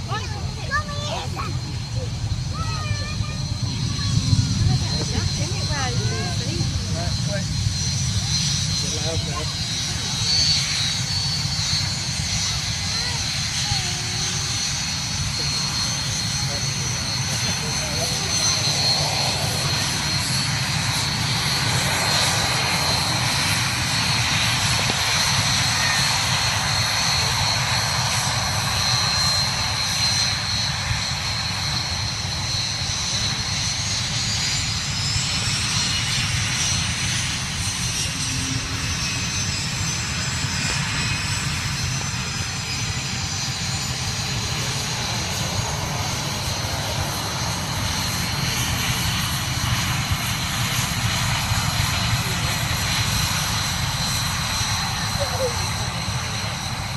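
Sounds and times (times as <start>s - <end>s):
jet engines whining: 0.0s - 56.9s.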